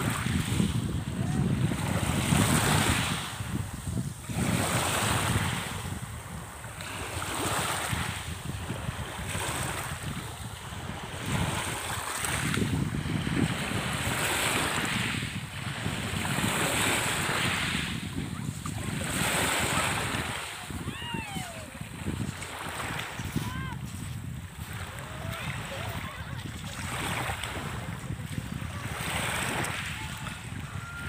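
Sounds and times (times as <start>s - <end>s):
sea waves washing: 0.0s - 31.0s
wind buffeting microphone: 0.0s - 31.0s.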